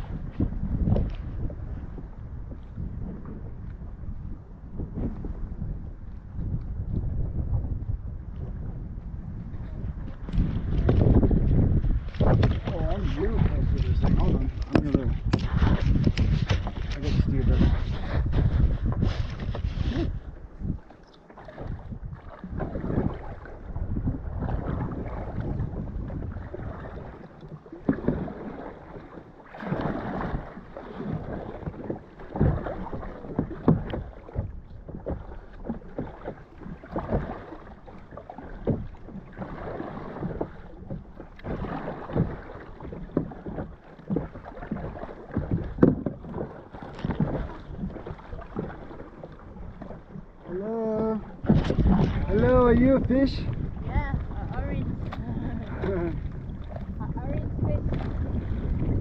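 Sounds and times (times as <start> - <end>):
paddle splashing through water: 0.0 - 59.0
water washing against board: 9.6 - 59.0.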